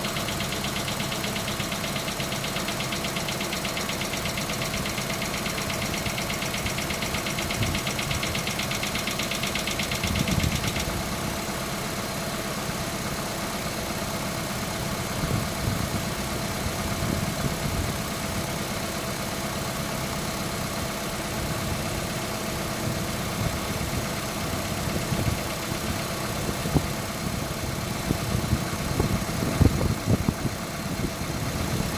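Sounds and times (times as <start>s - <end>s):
car engine idling: 0.0s - 31.9s
rapid engine ticking: 0.0s - 31.9s.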